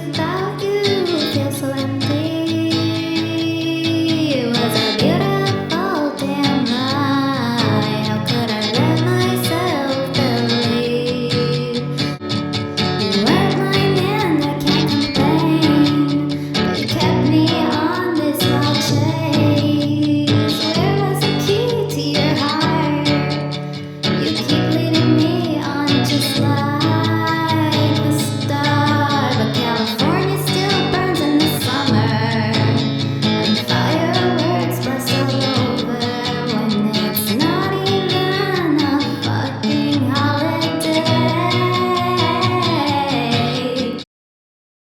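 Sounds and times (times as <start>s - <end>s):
person singing: 0.0s - 12.2s, 12.8s - 44.0s
acoustic guitar: 0.0s - 44.0s.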